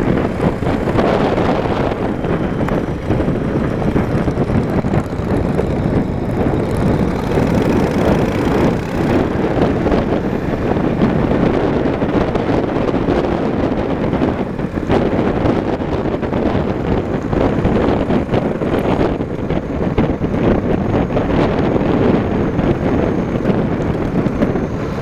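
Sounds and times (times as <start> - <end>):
motorcycle engine: 0.0 - 25.0
road noise: 0.0 - 25.0
wind rushing on microphone: 0.0 - 25.0.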